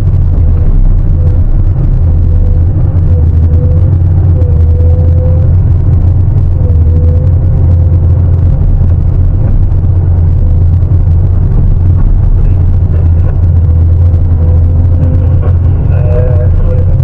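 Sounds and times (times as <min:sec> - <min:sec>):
excavator engine rumbling: 0:00.0 - 0:17.0
hydraulic whine: 0:00.0 - 0:17.0.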